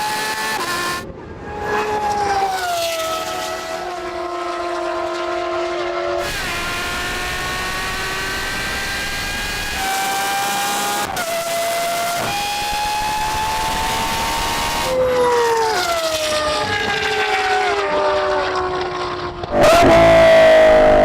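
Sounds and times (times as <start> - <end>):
supercar engines accelerating hard: 0.0 - 21.0.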